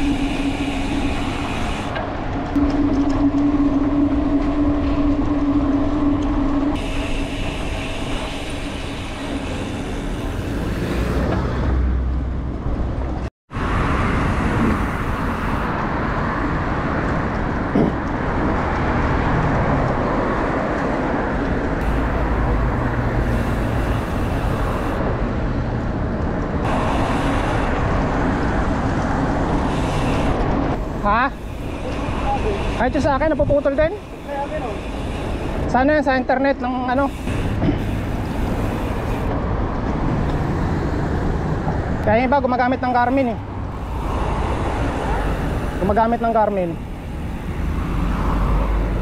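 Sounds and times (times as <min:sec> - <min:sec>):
cars passing: 0:00.0 - 0:49.0.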